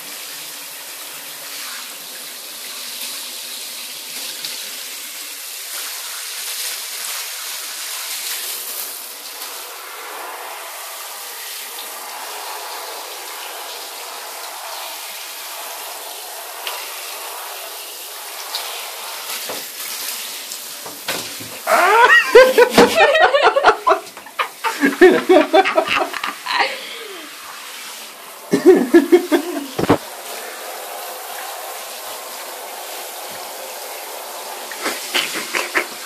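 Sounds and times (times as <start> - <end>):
shower water spraying: 0.0 - 36.0.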